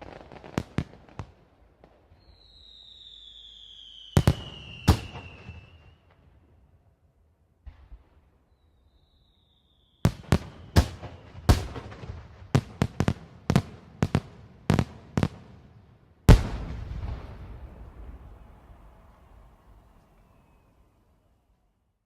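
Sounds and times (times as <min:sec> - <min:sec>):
fireworks exploding: 0:00.0 - 0:06.4, 0:07.6 - 0:20.6.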